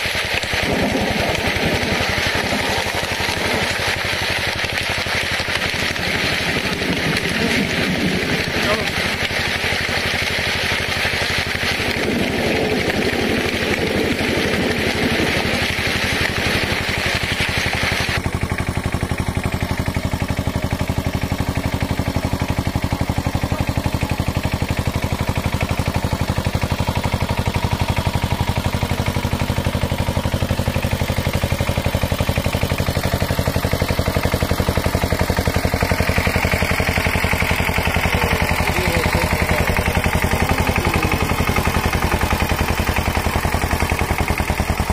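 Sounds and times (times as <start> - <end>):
diesel engine chugging: 0.0 - 44.9.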